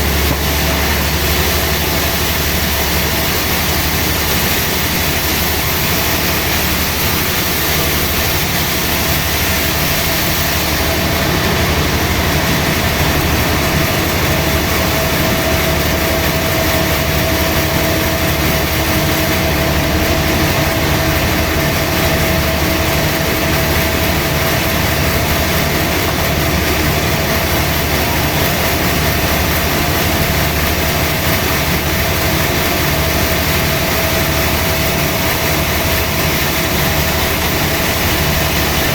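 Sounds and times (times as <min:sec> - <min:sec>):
sawmill machinery sawing wood: 0:00.0 - 0:38.9
steady machine whine: 0:00.0 - 0:38.9.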